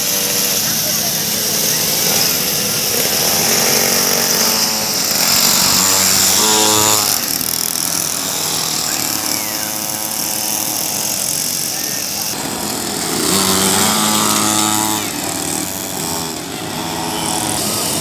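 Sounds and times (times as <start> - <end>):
motocross bike engines buzzing: 0.0 - 18.0.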